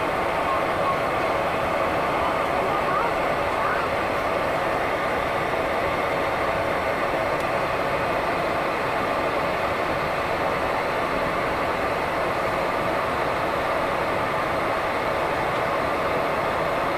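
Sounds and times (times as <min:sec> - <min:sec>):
turboprop engine drone: 0:00.0 - 0:16.9.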